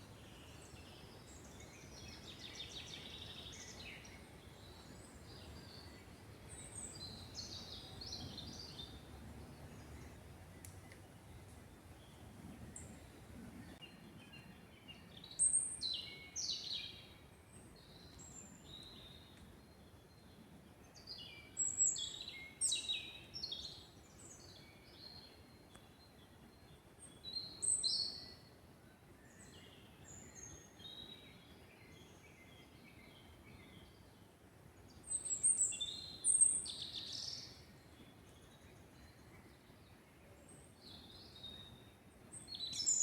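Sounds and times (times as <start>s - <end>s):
low background hiss: 0.0s - 43.0s
songbird singing: 0.0s - 43.0s.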